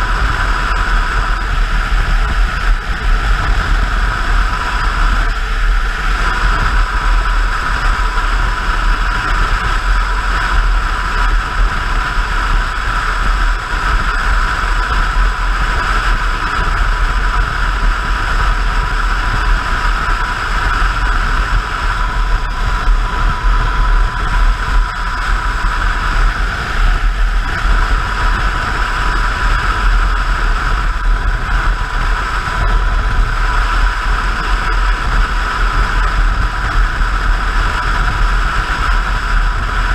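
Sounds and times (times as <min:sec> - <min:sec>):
motorcycle engine drone: 0:00.0 - 0:39.9
wind buffeting microphone: 0:00.0 - 0:39.9
wind noise: 0:00.0 - 0:39.9.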